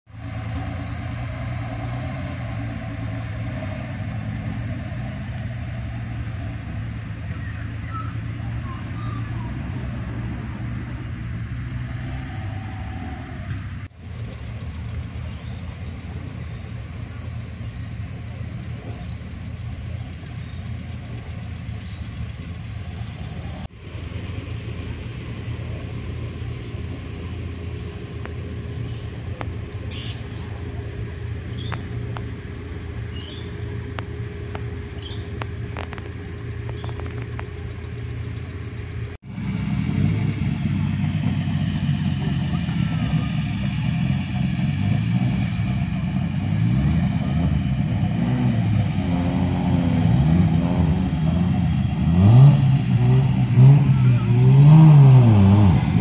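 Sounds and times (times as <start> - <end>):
car engines rumbling: 0.0 - 56.0.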